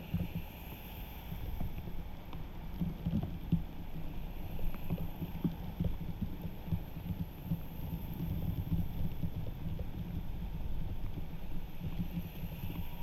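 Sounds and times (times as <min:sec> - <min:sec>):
faint ticks: 0:00.0 - 0:13.0.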